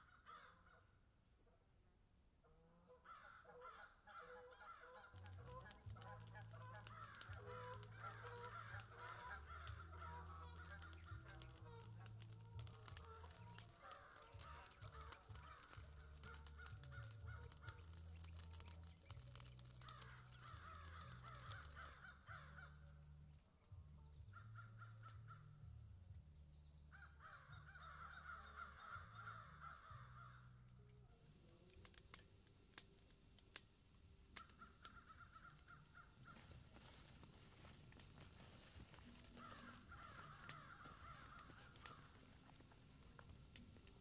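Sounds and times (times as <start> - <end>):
faint bird calls: 0.0 - 1.0, 2.6 - 25.8, 26.6 - 32.2, 34.3 - 44.0.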